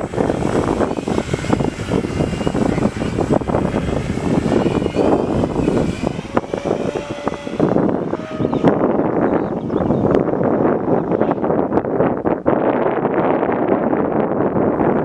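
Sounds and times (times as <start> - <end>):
electric model plane motor whining: 0.0 - 12.3, 13.4 - 15.0
wind buffeting on microphone: 0.0 - 15.0.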